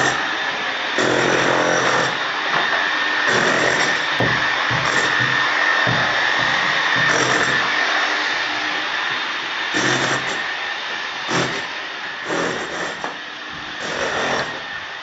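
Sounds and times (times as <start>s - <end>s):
electric chipping hammer on wall: 0.0s - 14.8s.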